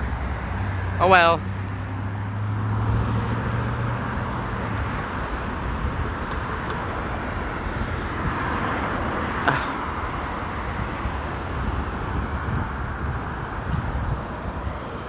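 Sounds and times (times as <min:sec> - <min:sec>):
low engine hum: 0:00.0 - 0:15.0
traffic rush of tyres and engines: 0:00.0 - 0:15.0.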